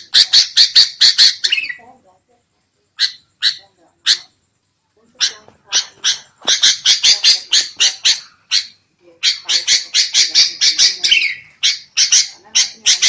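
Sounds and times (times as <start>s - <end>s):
bulbuls harsh chatter: 0.0s - 2.0s, 2.9s - 4.4s, 5.0s - 13.0s.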